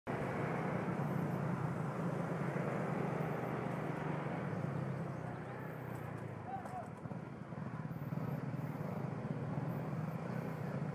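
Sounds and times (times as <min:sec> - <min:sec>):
motorcycle engine drone: 0:00.1 - 0:10.9
wind and road rush: 0:00.1 - 0:10.9.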